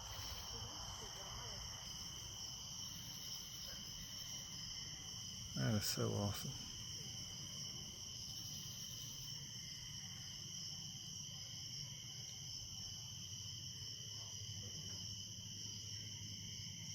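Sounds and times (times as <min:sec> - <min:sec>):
crickets trilling: 0:00.0 - 0:16.9.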